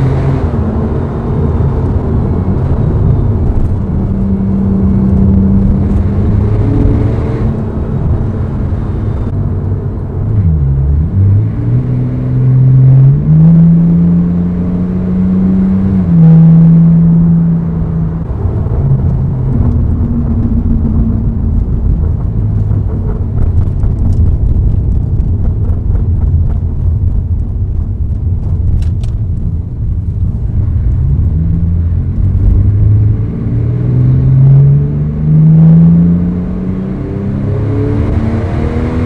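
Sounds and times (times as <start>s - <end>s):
loud car engine running: 0.0s - 39.0s.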